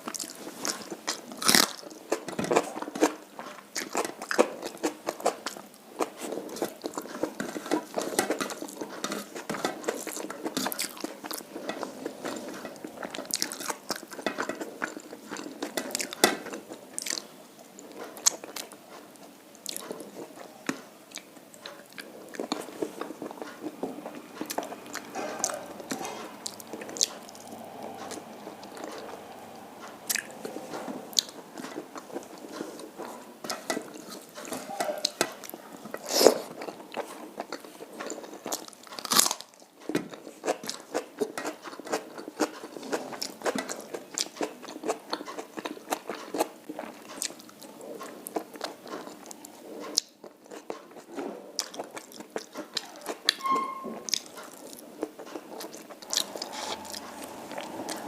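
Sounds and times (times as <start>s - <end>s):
person chewing and crunching: 0.0s - 53.4s, 54.1s - 58.0s.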